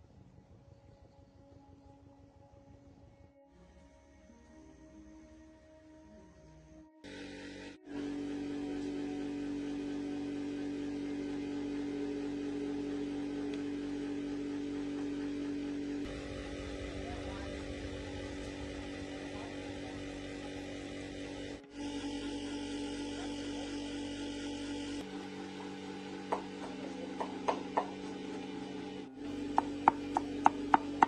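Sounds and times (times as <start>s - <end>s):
electric motor humming: 3.6s - 31.0s.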